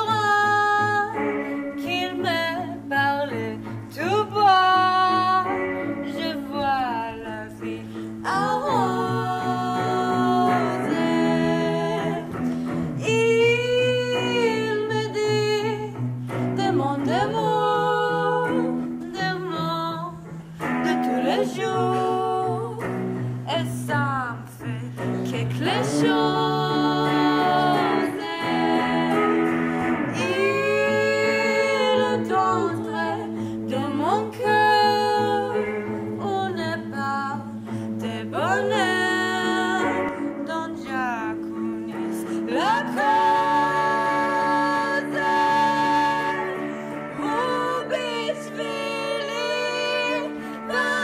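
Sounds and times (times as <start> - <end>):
women singing: 0.0 - 51.0.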